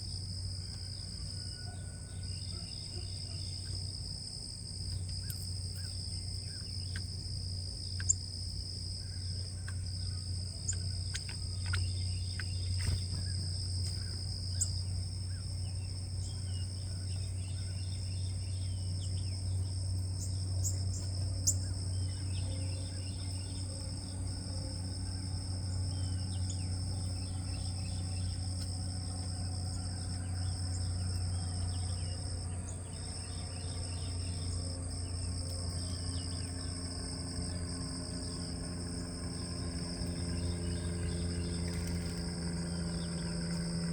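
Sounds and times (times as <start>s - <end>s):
crickets trilling: 0.0s - 43.9s
low steady hum: 0.0s - 43.9s.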